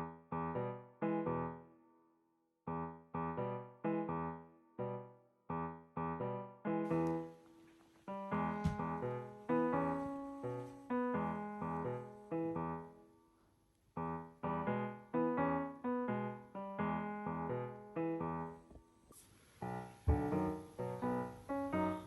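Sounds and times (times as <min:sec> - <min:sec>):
slow piano music: 0:00.0 - 0:01.8, 0:02.7 - 0:22.0.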